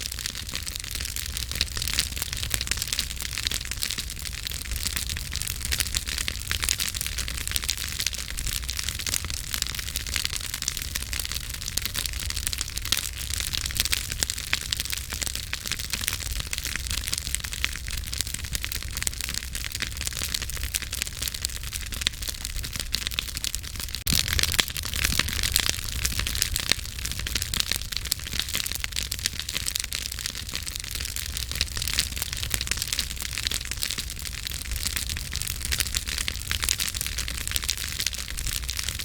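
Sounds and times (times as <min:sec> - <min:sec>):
low rumble of flames: 0:00.0 - 0:39.0
wood crackling and popping: 0:00.0 - 0:39.0.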